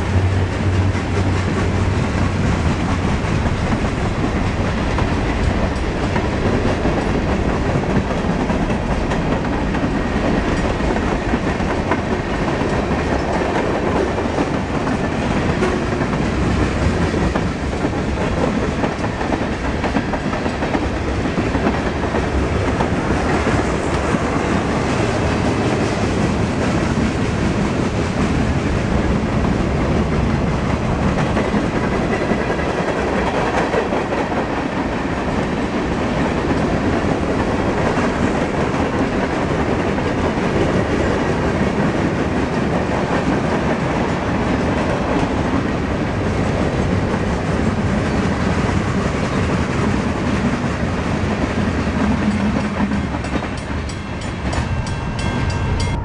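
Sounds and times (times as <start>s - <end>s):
freight train wheels rolling: 0.0s - 56.0s.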